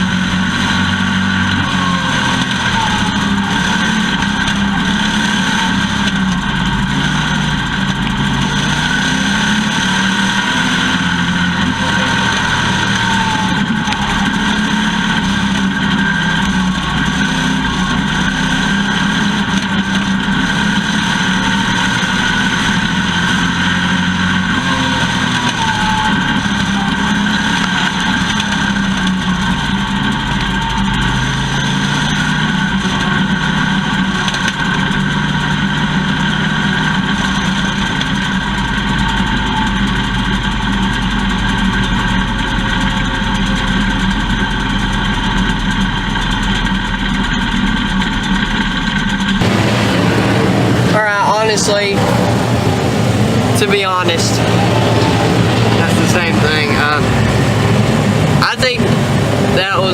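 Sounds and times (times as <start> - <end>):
race car engine under load: 0.0 - 59.9
road and wind noise: 0.0 - 59.9.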